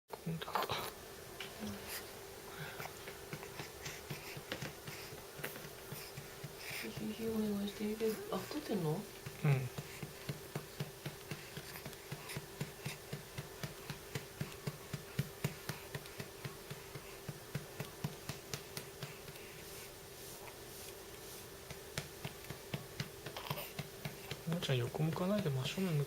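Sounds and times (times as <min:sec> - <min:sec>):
steady low hum: 0:00.1 - 0:26.0.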